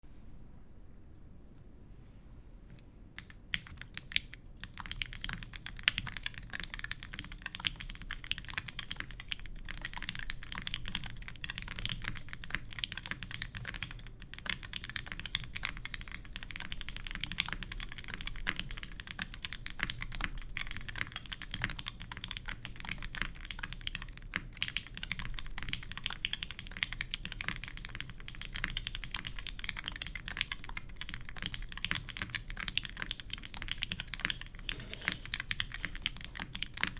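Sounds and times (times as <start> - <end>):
fast mechanical keyboard typing: 3.1 - 36.9.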